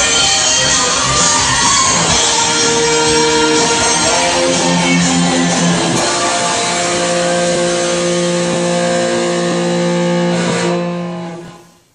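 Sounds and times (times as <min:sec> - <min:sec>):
distorted electric guitar chords: 0:00.0 - 0:11.9.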